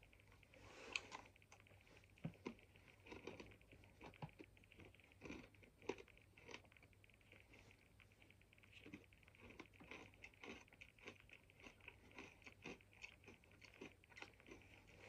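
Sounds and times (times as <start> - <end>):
chewing crisps: 0.8 - 15.0.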